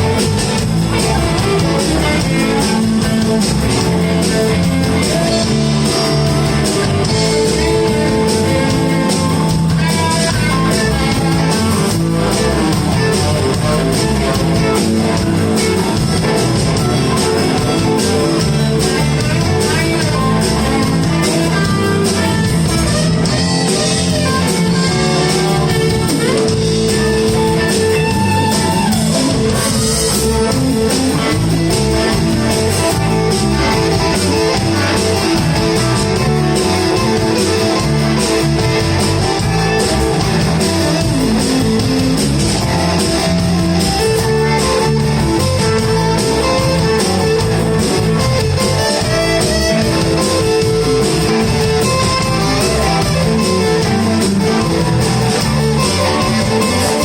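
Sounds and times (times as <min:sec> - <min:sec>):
bass: 0:00.0 - 0:57.0
drums: 0:00.0 - 0:57.0
electric guitar: 0:00.0 - 0:57.0.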